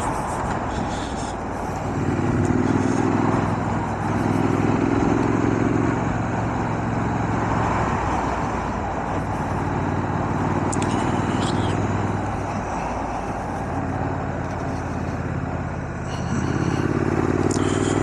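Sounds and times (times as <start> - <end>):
motorcycle engine at low revs: 0.0 - 18.0
wind and road noise: 0.0 - 18.0.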